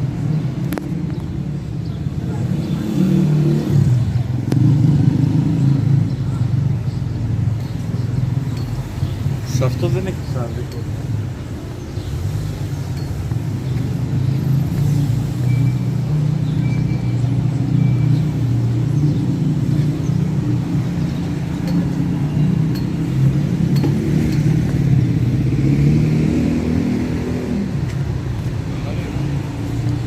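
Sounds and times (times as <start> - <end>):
vehicle engine low rumble: 0.0 - 30.0.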